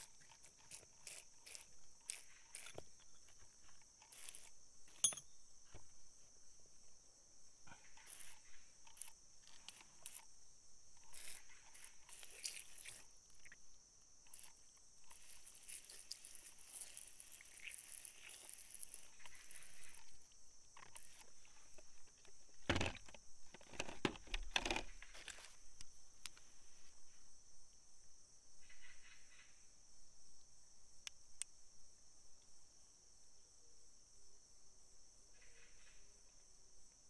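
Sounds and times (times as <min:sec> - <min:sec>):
high insect chorus: 0:00.0 - 0:37.0.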